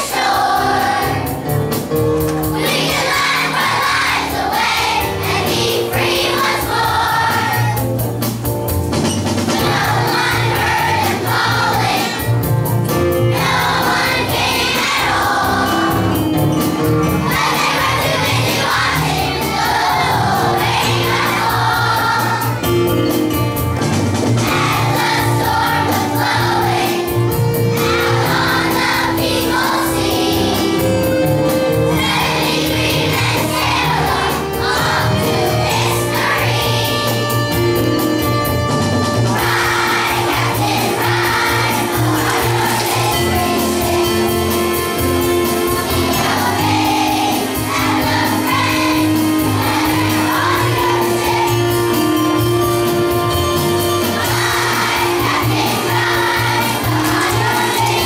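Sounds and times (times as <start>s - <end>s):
children's choir singing: 0.0s - 8.0s, 9.0s - 38.2s, 38.8s - 58.0s
instrumental accompaniment: 0.0s - 58.0s.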